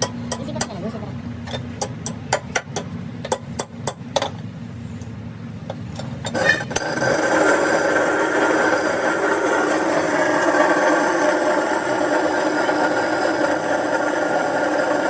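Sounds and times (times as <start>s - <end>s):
motor running steadily: 0.0s - 15.0s.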